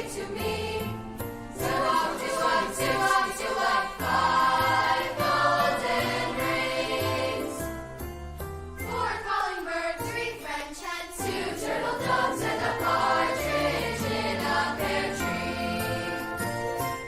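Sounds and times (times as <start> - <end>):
choir singing: 0.0 - 7.7, 8.8 - 16.8.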